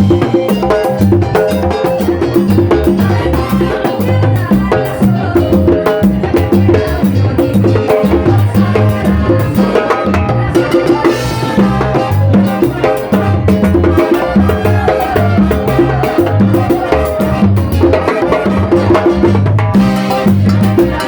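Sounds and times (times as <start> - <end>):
latin dance music: 0.0 - 21.0.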